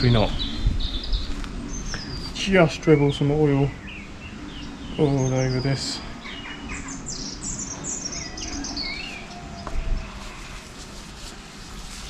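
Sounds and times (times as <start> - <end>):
songbird chirping: 0.0 - 10.6.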